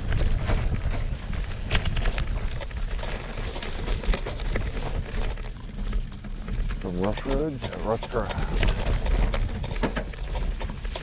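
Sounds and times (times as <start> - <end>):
bicycle frame clicks and clatters: 0.0 - 11.0
bicycle low rumble: 0.0 - 11.0.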